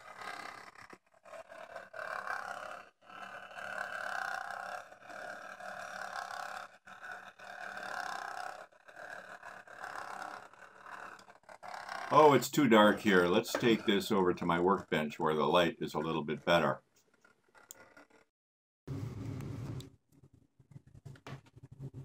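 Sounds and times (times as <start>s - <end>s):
toy motor grinding whir: 0.0s - 18.3s.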